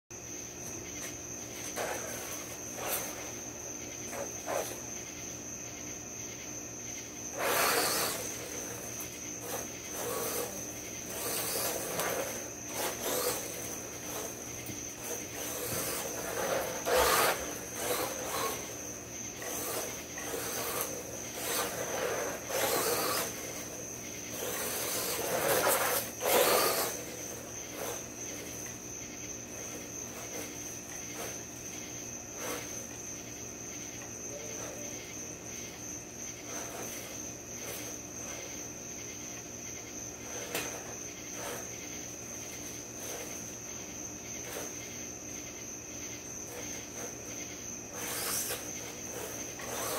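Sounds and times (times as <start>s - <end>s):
crickets chirping: 0.1s - 49.9s
rc car motor and tyres on dirt: 0.7s - 4.9s, 7.3s - 38.7s, 39.3s - 45.1s, 46.0s - 49.9s.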